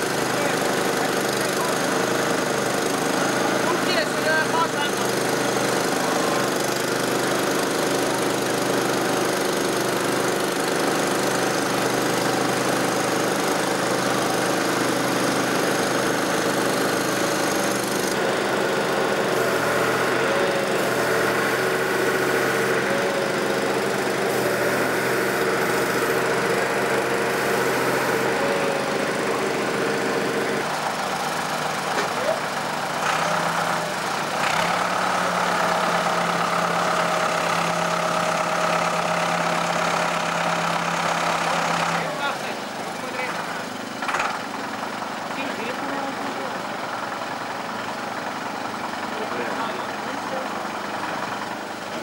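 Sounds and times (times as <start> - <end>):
boat engine idling: 0.0 - 52.0.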